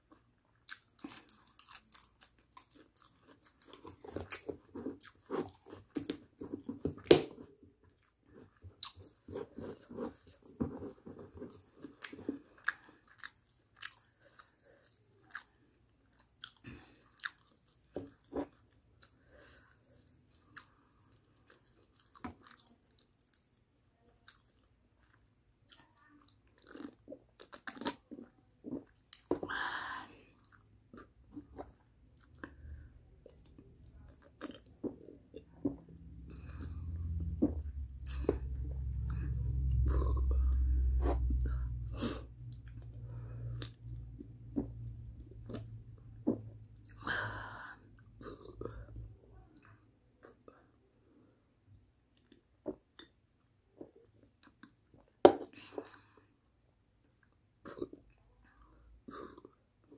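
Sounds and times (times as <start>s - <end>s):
person chewing food: 0.0s - 50.8s, 52.1s - 59.9s.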